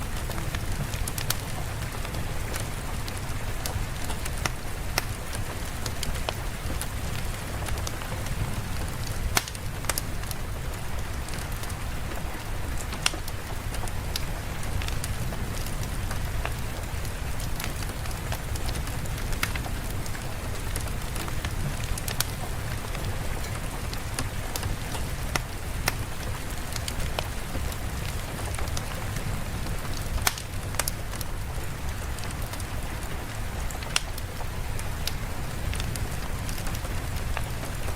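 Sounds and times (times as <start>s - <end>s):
rain hiss: 0.0s - 37.9s
sharp crackles and ticks: 0.0s - 37.9s.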